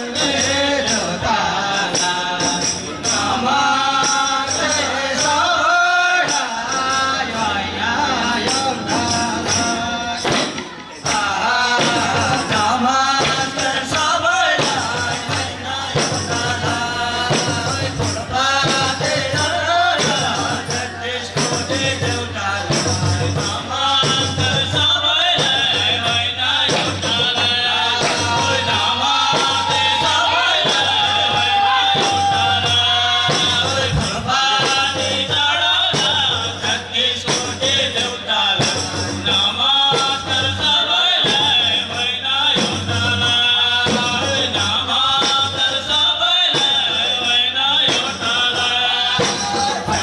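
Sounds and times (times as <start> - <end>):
folk singing: 0.0 - 50.0
hand-played frame drums: 0.0 - 50.0.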